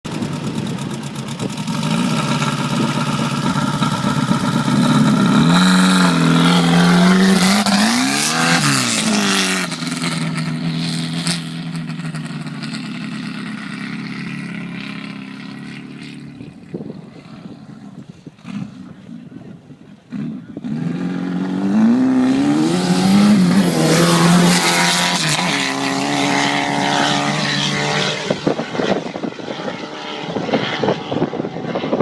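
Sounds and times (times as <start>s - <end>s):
car engine revving: 1.0s - 19.4s, 20.0s - 32.0s.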